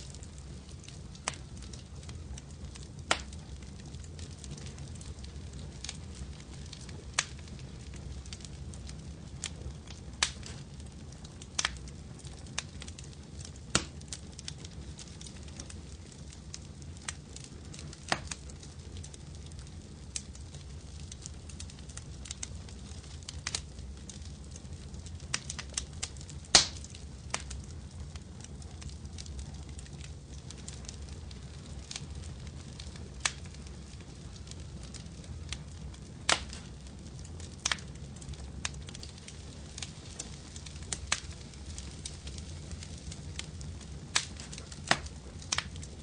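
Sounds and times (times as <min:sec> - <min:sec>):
fire pops and snaps: 0:00.0 - 0:46.0
flames rumbling in fireplace: 0:00.0 - 0:46.0.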